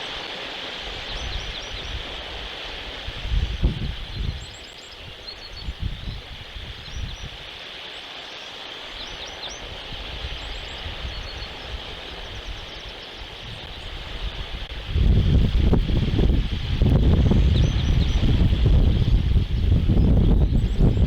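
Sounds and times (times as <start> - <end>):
steady hiss: 0.0 - 21.0
small birds chirping: 0.9 - 2.4, 3.1 - 14.8, 16.4 - 21.0
wind buffeting microphone: 0.9 - 7.5, 9.5 - 21.0.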